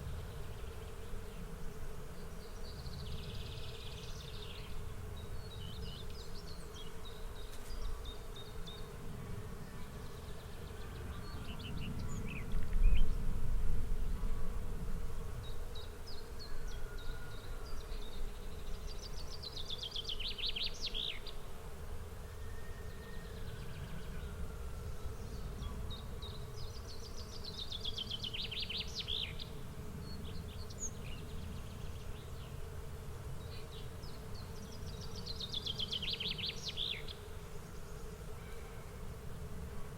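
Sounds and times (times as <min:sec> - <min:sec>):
insect buzz: 0:00.0 - 0:39.9.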